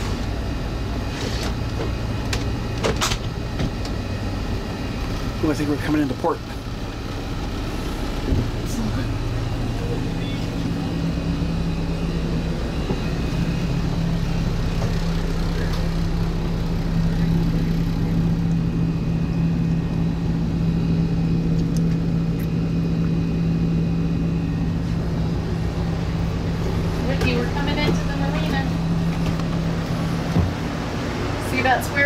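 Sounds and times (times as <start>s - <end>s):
boat engines droning: 0.0s - 32.0s.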